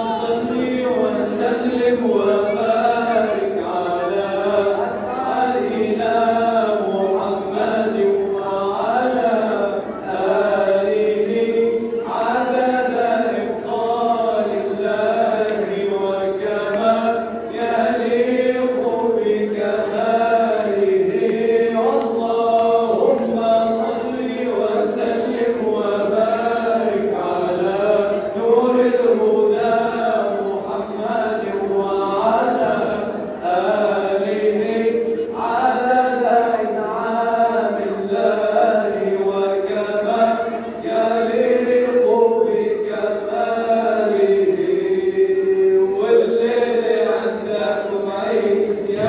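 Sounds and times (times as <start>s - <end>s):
men chanting unaccompanied: 0.0s - 49.0s.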